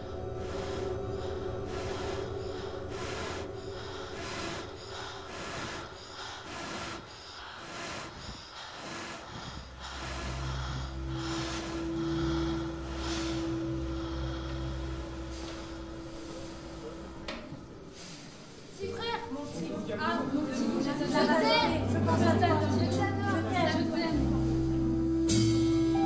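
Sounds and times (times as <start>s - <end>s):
soft sustained musical notes: 0.0s - 8.0s, 9.7s - 18.7s, 19.7s - 26.0s
low drone: 0.0s - 18.8s, 21.8s - 26.0s
rhythmic breathing: 0.0s - 26.0s.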